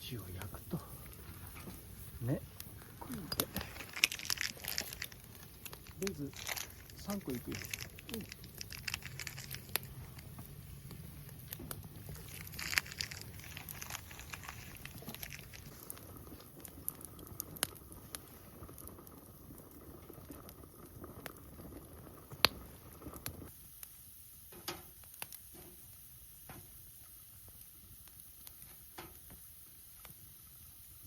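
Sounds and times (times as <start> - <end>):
campfire crackling: 0.0 - 31.0
sharp pops and snaps: 0.4 - 30.7.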